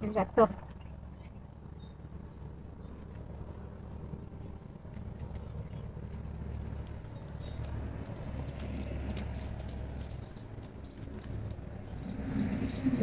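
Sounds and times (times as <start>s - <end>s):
high insect drone: 0.0s - 13.0s
low rumble: 0.0s - 13.0s.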